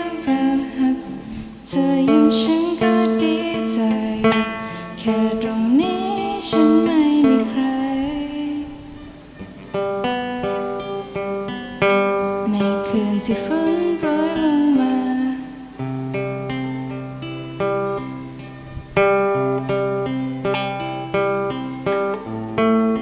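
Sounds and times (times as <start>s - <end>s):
plucked guitar chords: 0.0s - 23.0s
sliding guitar melody: 0.0s - 23.0s.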